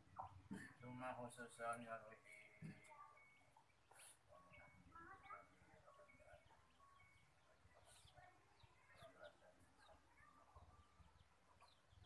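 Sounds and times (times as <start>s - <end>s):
faint high bird chirps: 2.2s - 12.0s.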